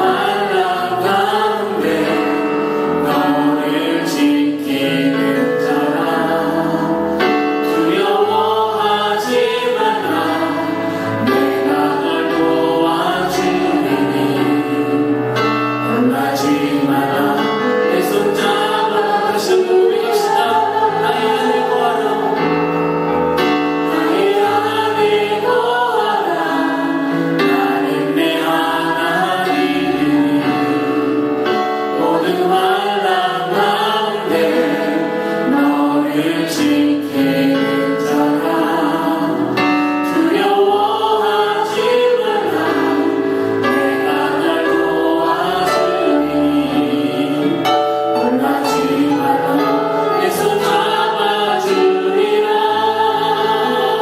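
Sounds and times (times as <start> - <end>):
group singing worship song: 0.0 - 54.0
instrumental accompaniment: 0.0 - 54.0.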